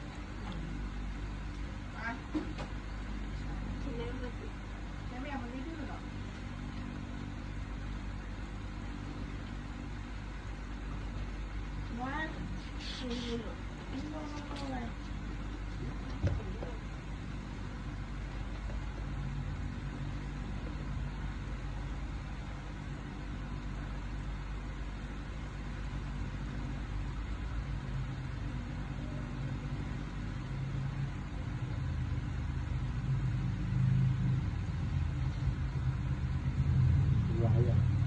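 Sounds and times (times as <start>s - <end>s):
low motor hum: 0.0s - 38.0s.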